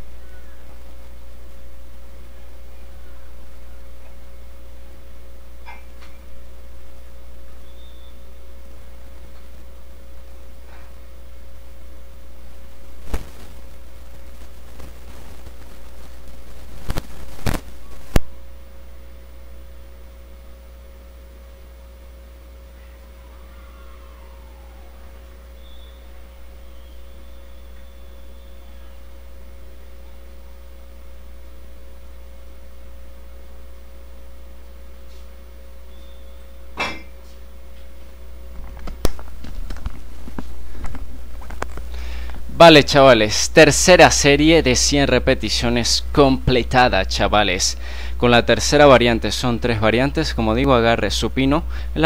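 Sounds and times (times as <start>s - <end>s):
steady electrical hum: 0.0s - 52.0s.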